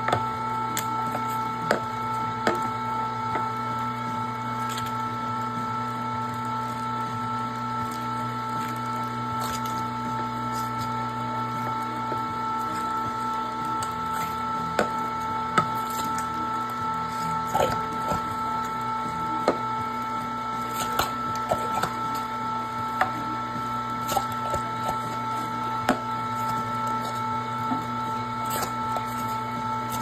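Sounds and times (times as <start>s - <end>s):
meat grinder motor whine: 0.0s - 30.0s.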